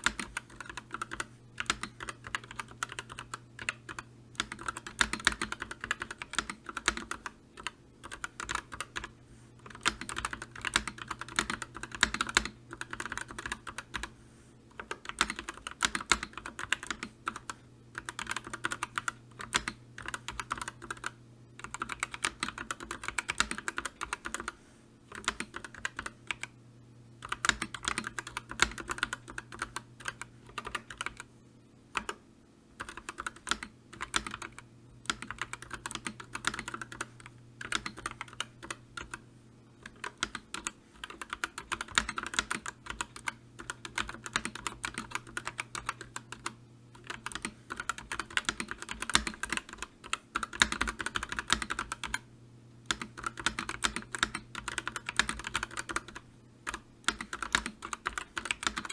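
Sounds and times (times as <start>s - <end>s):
keyboard typing: 0.0s - 14.1s, 14.7s - 26.5s, 27.2s - 31.3s, 31.9s - 32.2s, 32.8s - 39.2s, 39.8s - 58.9s.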